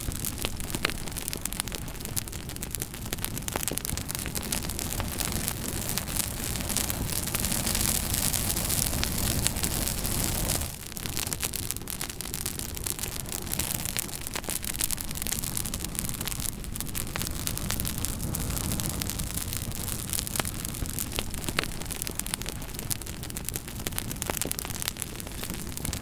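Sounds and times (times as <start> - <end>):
fire crackling and popping: 0.0 - 26.0
fire hissing: 0.0 - 26.0.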